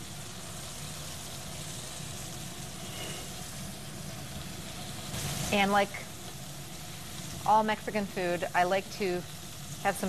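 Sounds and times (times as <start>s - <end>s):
sauce sizzling in a skillet: 0.0s - 10.0s.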